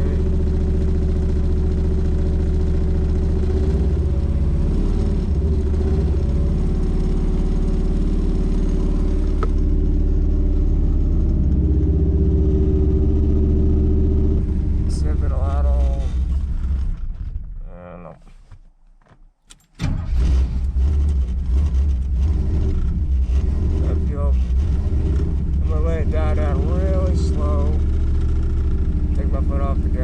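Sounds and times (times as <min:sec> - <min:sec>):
engine idling: 0:00.0 - 0:17.6, 0:20.0 - 0:30.0.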